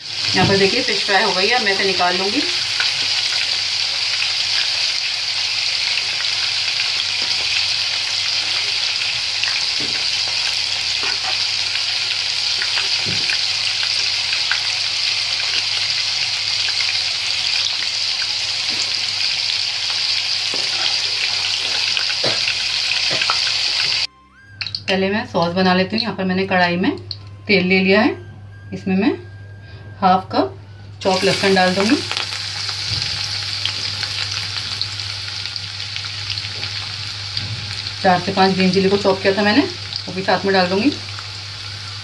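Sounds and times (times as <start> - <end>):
fish deep-frying in hot oil: 0.0 - 24.8, 31.0 - 42.0.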